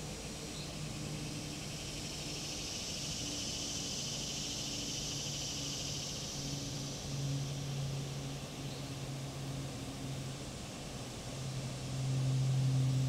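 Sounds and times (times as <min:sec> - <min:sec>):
cicada buzzing: 0:00.0 - 0:13.0
low steady hum: 0:00.0 - 0:13.0.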